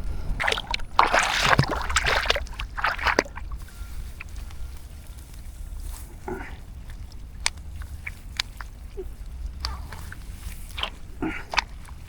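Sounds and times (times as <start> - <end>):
steady low rumble: 0.0 - 12.0
water splashing and sloshing: 0.0 - 12.0.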